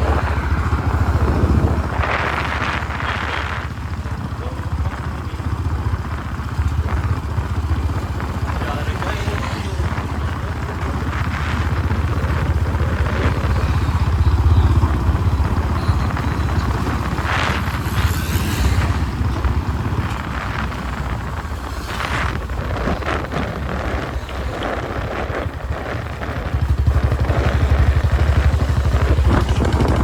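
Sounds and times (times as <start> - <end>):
motorcycle engine thumping: 0.0 - 30.0
rushes of noise: 0.0 - 30.0.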